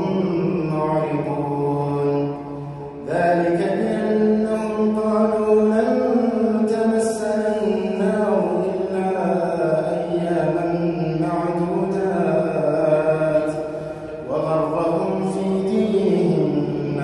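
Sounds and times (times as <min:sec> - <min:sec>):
man chanting melodically: 0:00.0 - 0:17.0.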